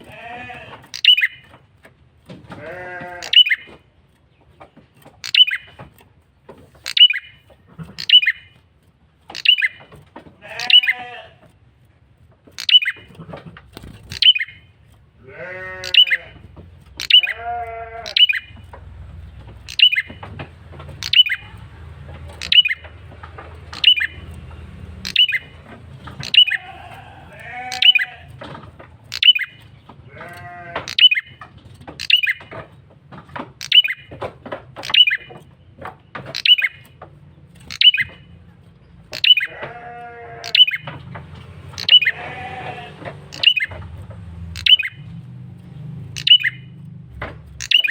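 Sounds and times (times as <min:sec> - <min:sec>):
harsh nasal buzzy bird calls: 0:00.0 - 0:01.5, 0:02.6 - 0:05.9, 0:06.7 - 0:08.6, 0:09.3 - 0:11.6, 0:12.5 - 0:32.5, 0:33.6 - 0:34.1, 0:34.8 - 0:45.1, 0:45.7 - 0:46.9, 0:47.5 - 0:47.9
bird calling high clipped notes: 0:00.0 - 0:01.9, 0:02.6 - 0:06.1, 0:06.7 - 0:11.5, 0:12.5 - 0:28.4, 0:29.0 - 0:32.7, 0:33.6 - 0:47.9.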